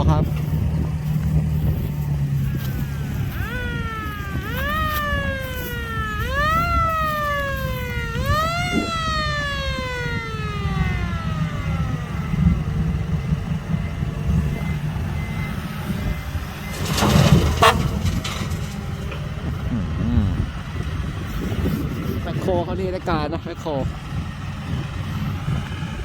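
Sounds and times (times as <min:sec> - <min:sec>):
rising and falling whine: 0:00.0 - 0:21.3
diesel dump truck exhaust rumble: 0:00.0 - 0:26.0.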